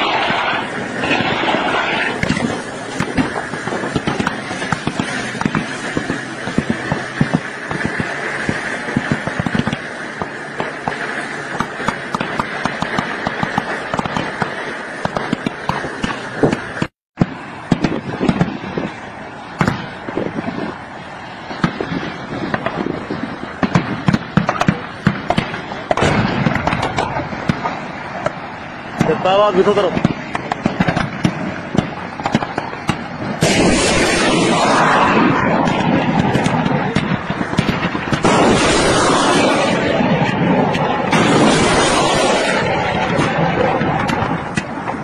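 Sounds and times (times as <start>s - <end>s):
gunfire cracks: 0.0s - 18.7s, 23.6s - 45.0s
noisy background: 0.0s - 45.0s.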